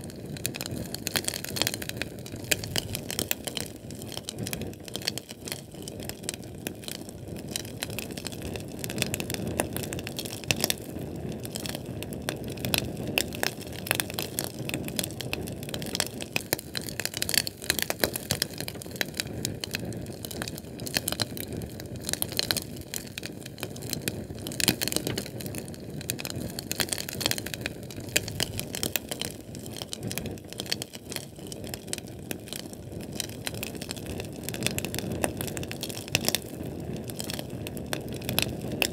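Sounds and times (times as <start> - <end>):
flame crackling and popping: 0.0 - 38.9
low rush of flame: 0.0 - 38.9.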